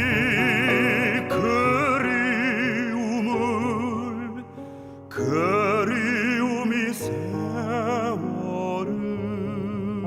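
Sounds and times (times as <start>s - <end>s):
baritone singing with vibrato: 0.0s - 10.0s
piano accompaniment: 0.0s - 10.0s.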